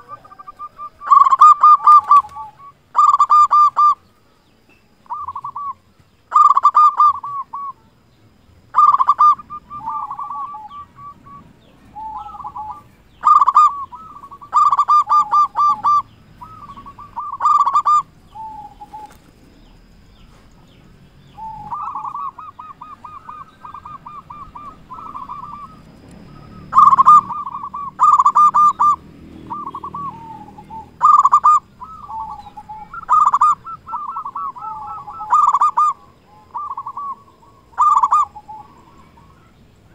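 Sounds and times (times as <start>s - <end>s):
dove cooing: 0.0s - 4.1s, 5.0s - 7.9s, 8.6s - 39.9s.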